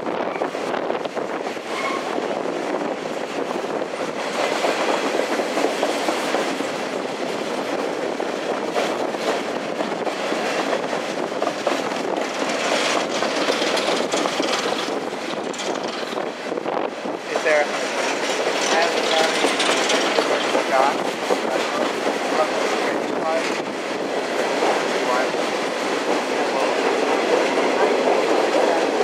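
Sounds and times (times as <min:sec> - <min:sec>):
train wheels clacking on rails: 0:00.0 - 0:29.0.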